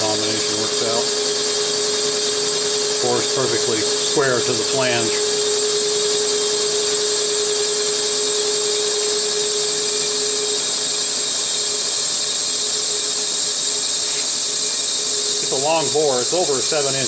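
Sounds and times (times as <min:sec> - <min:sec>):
mill machine hiss with whine: 0:00.0 - 0:17.0
steady low hum: 0:00.0 - 0:17.0.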